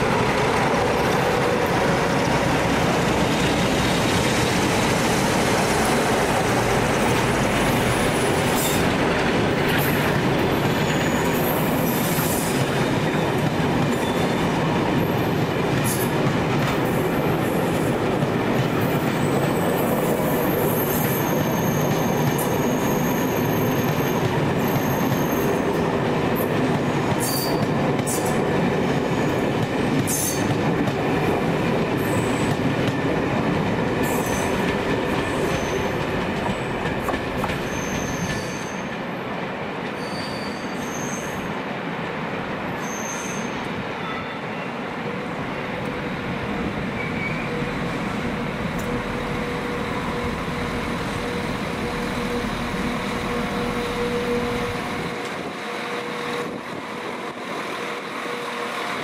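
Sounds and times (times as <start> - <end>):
train running rumble: 0.0 - 39.2, 45.1 - 59.0
train wheels squealing: 1.0 - 9.0, 9.6 - 16.1, 18.8 - 25.9, 26.8 - 30.6, 32.0 - 32.6, 34.0 - 39.0, 39.9 - 41.6, 42.7 - 45.8, 46.9 - 59.0.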